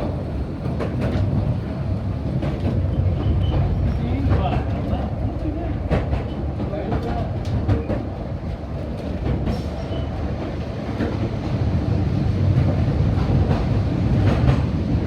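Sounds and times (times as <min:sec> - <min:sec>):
rail joint clicks: 0:00.0 - 0:15.0
train wheels rumbling on track: 0:00.0 - 0:15.0.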